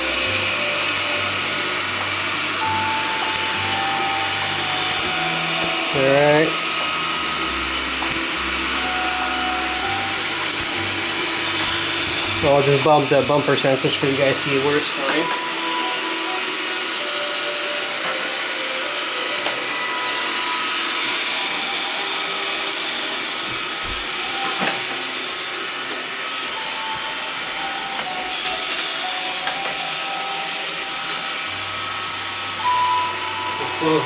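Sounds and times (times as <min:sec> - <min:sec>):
robot vacuum whirring: 0:00.0 - 0:34.0.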